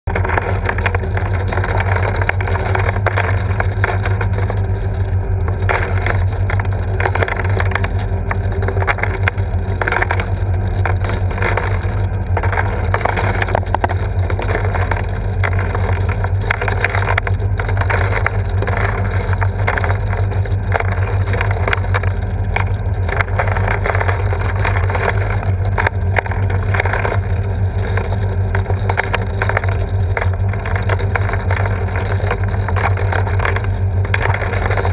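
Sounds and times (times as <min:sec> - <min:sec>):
low motor hum: 0:00.0 - 0:34.9
churning rush of stirred liquid: 0:00.1 - 0:34.9.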